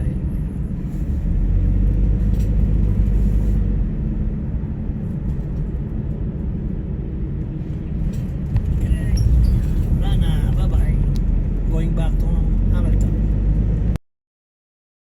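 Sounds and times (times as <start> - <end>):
low road rumble of vehicle driving: 0.0 - 14.0.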